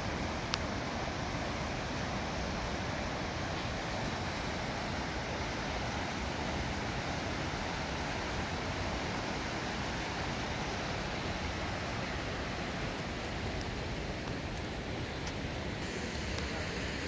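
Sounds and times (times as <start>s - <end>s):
river rapids roaring: 0.0s - 17.0s.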